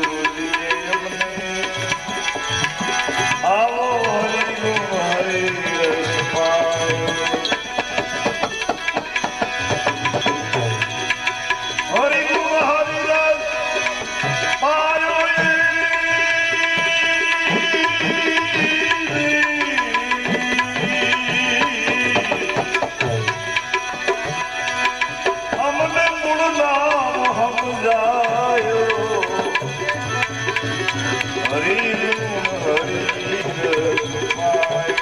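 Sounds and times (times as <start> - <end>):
sliding held melody line: 0.0 - 35.0
tabla rhythm: 0.0 - 35.0.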